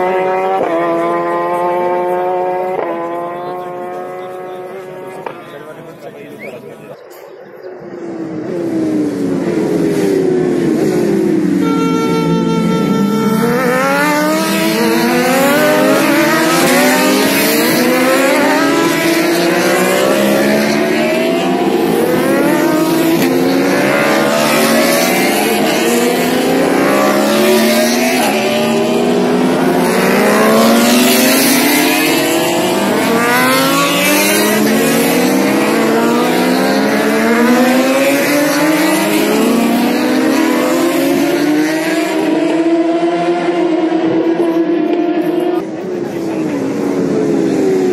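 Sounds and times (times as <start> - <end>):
racing motorcycles accelerating: 0.0 - 7.0, 7.6 - 47.9.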